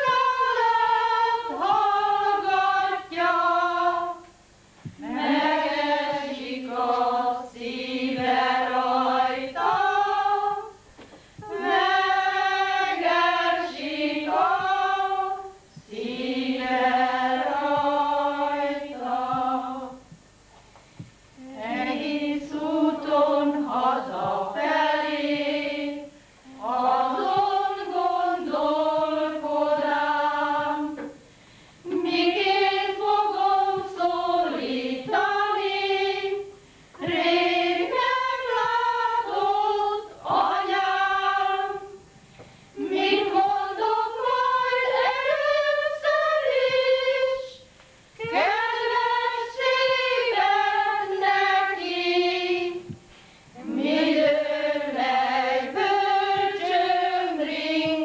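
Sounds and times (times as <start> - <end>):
women's choir singing unaccompanied: 0.0 - 20.2, 21.0 - 58.0.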